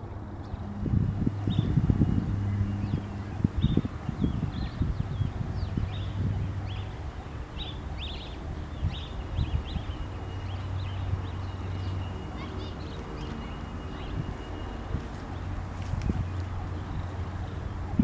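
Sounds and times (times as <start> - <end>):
steady low rumble: 0.0 - 18.0
small birds chirping: 0.4 - 18.0.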